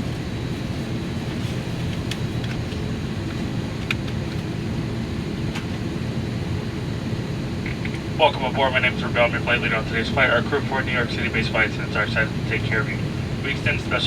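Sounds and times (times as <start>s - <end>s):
aircraft cabin rumble: 0.0s - 14.0s.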